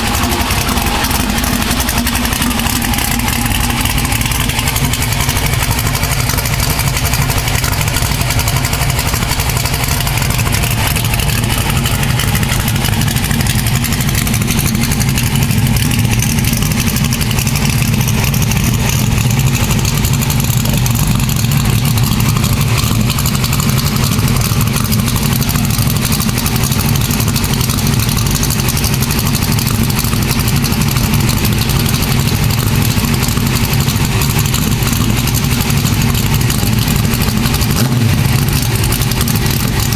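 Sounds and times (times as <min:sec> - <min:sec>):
low engine exhaust note: 0:00.0 - 0:39.9.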